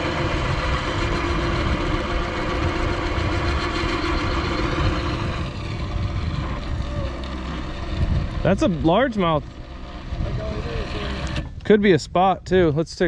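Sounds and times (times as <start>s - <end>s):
boat motor running: 0.0s - 11.9s.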